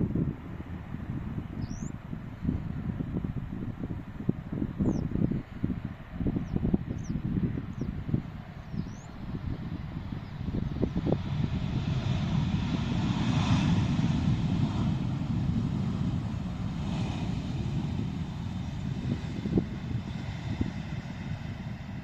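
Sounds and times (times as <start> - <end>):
airliner engines deep rumble: 0.0 - 22.0.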